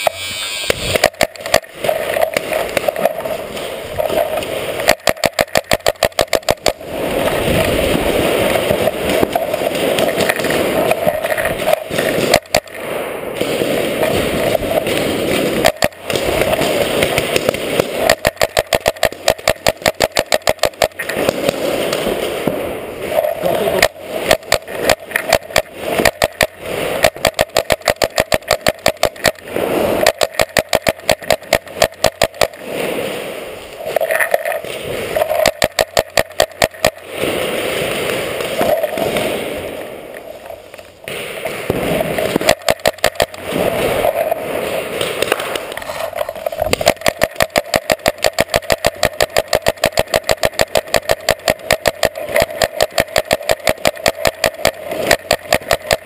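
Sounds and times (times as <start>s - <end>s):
paintball markers firing: 0.0s - 22.6s, 23.6s - 32.7s, 34.0s - 37.1s, 41.1s - 44.2s, 45.0s - 56.0s.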